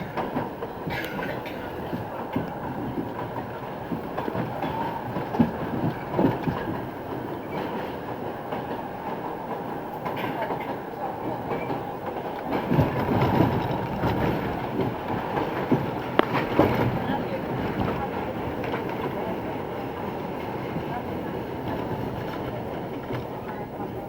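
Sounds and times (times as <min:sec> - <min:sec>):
subway train rumbling: 0:00.0 - 0:24.0
wheels clacking over rail joints: 0:00.0 - 0:24.0.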